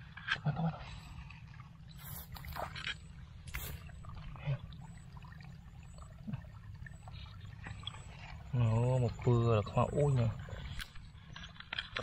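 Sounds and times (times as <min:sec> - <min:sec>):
water trickling in a channel: 0:00.0 - 0:12.0
water splashing: 0:00.8 - 0:11.5.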